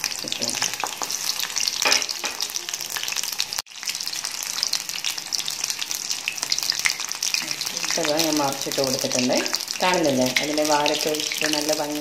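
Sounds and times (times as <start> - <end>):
prawns deep-frying in oil: 0.0 - 12.0.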